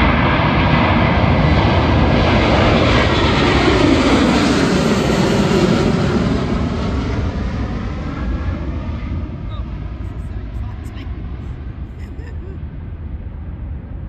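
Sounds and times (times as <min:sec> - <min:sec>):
jet airliner engines roaring: 0:00.0 - 0:14.0.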